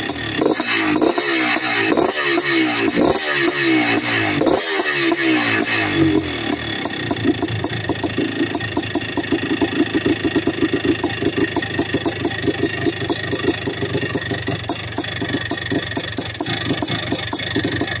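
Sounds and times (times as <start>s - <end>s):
two-stroke engine idling: 0.0s - 18.0s.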